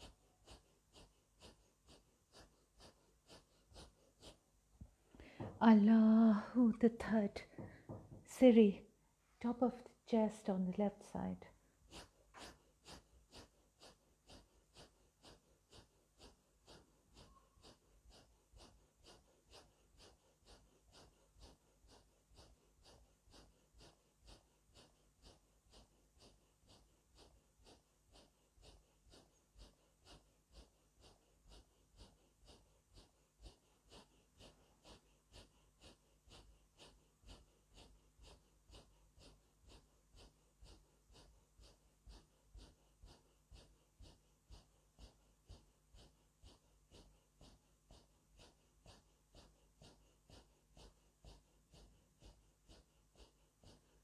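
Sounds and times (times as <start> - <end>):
rhythmic breathing through nose: 0.0 - 54.0.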